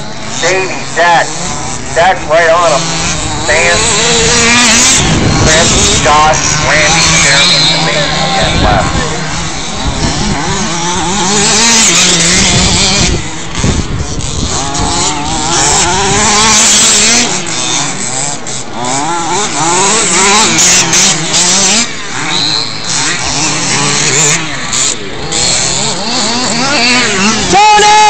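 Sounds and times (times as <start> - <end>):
small rc car engines buzzing: 0.0 - 28.0.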